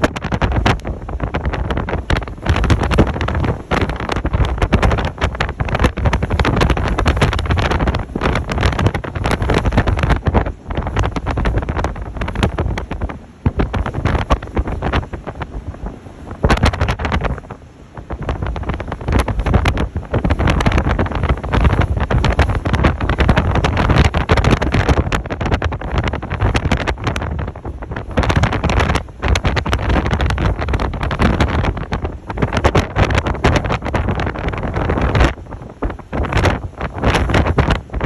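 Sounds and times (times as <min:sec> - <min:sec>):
strong wind buffeting microphone: 0:00.0 - 0:38.0.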